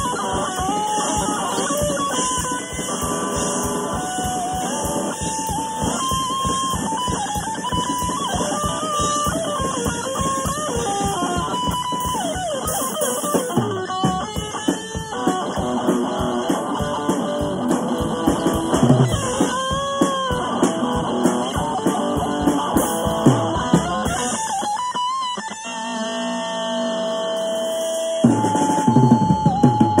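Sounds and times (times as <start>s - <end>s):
drum kit with cymbals: 0.0s - 25.7s, 26.7s - 30.0s
electric lead guitar: 0.0s - 30.0s.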